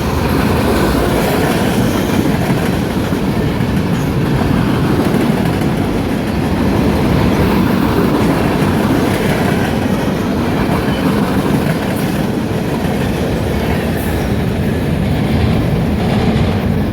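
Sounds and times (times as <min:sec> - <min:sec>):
train wheels rumbling on rails: 0:00.0 - 0:16.9.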